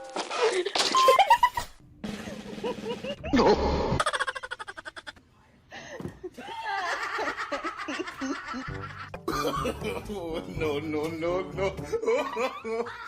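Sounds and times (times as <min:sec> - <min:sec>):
people laughing and giggling: 0:00.3 - 0:05.2, 0:06.0 - 0:10.9, 0:11.8 - 0:13.0.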